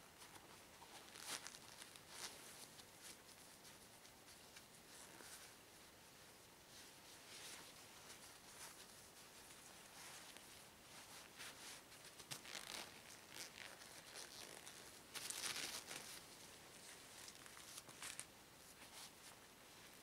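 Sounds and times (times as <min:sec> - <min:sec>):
rubber gloves rubbing and rustling: 0:00.0 - 0:20.0.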